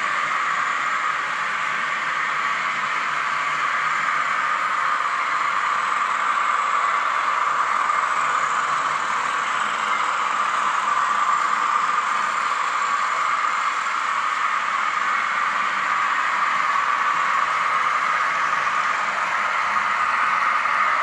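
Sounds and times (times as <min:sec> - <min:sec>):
model train diesel engine sound: 0:00.0 - 0:21.0.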